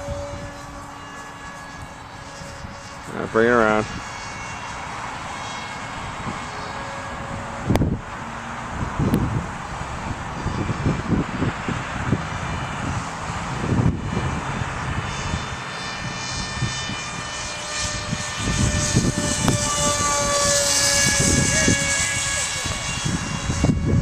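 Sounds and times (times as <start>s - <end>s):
model plane motor whining: 0.0s - 24.0s
wind buffeting microphone: 0.0s - 24.0s.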